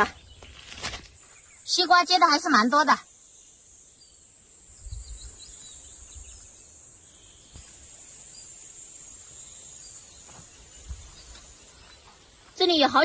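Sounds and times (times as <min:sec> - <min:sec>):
insects buzzing: 0:00.0 - 0:13.0
faint bird chirps: 0:01.2 - 0:13.0.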